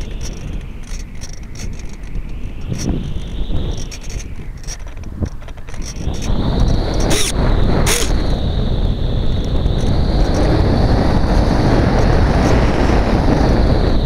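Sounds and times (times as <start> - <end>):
faint high whine: 0.0 - 14.0
wind rushing over microphone: 0.0 - 14.0.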